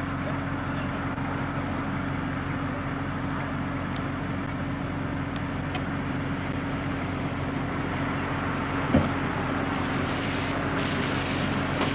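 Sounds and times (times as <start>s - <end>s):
vehicle engine idling: 0.0s - 11.9s.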